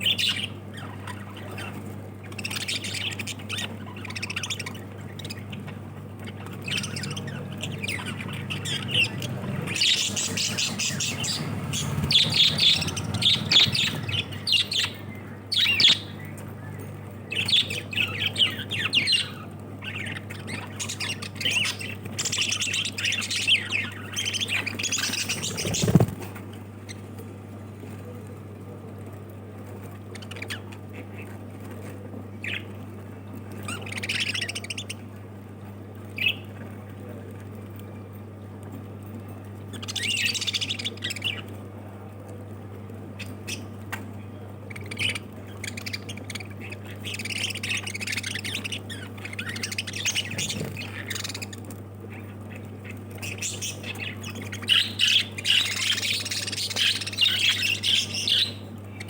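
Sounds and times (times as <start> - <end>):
lovebirds squawking and chirping: 0.0 - 27.4, 29.7 - 37.2, 39.1 - 41.7, 42.8 - 59.0
steady low hum: 0.0 - 59.0.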